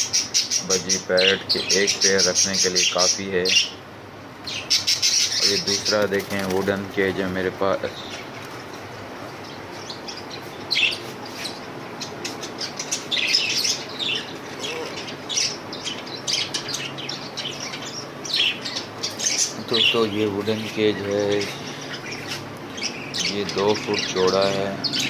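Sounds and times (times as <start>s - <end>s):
budgerigars chirping: 0.0s - 3.8s, 4.4s - 25.0s.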